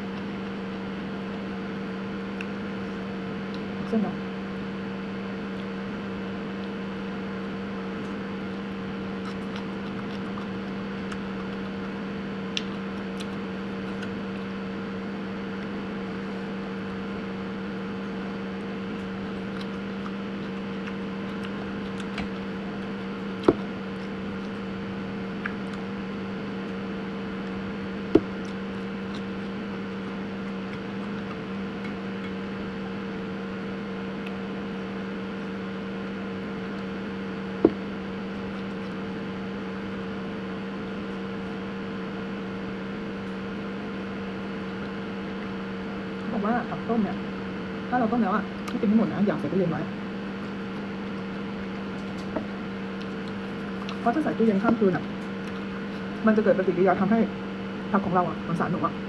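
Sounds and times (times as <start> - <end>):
two-tone machine hum: 0.0 - 59.0.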